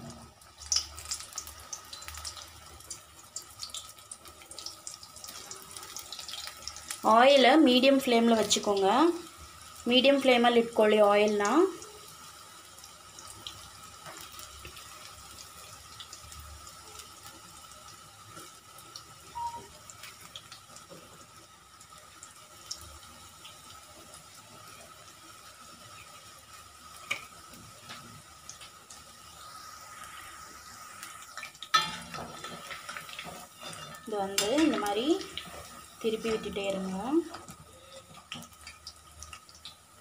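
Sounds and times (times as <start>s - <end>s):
fritters sizzling in hot oil: 0.0s - 40.0s.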